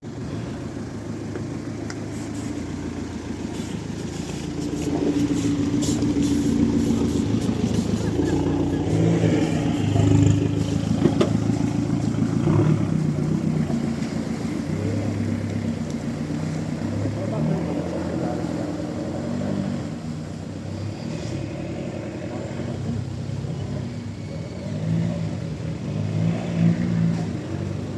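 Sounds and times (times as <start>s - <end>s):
diesel engine working off-road: 0.0s - 27.9s.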